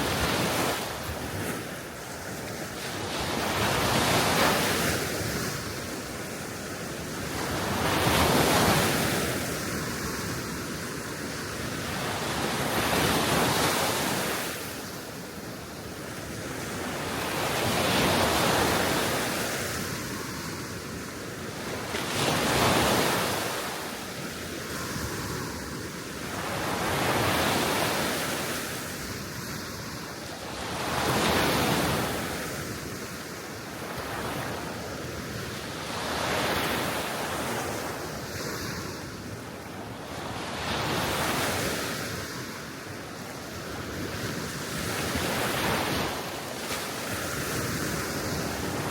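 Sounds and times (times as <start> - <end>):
waves washing onto shore: 0.0 - 48.9.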